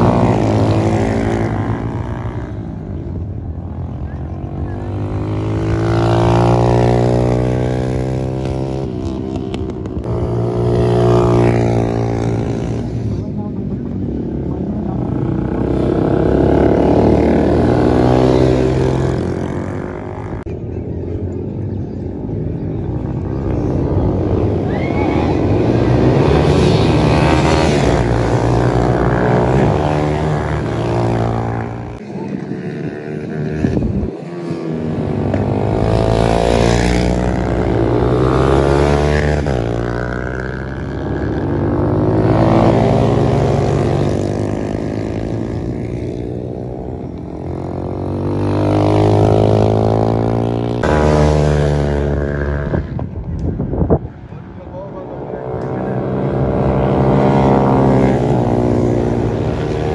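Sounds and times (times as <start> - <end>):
motorcycles racing past: 0.0 - 20.6, 21.9 - 59.9.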